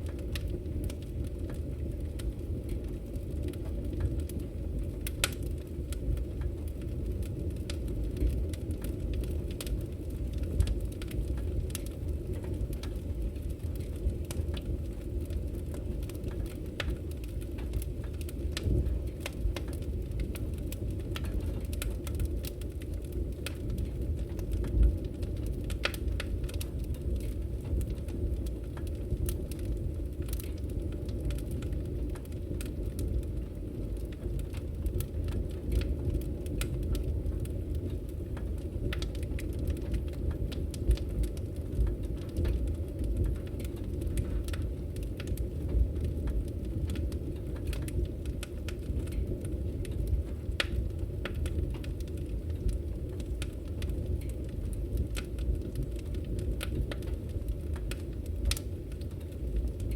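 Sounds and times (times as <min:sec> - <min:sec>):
firewood crackling and popping: 0:00.0 - 0:59.9
low rumble of flames: 0:00.0 - 0:59.9.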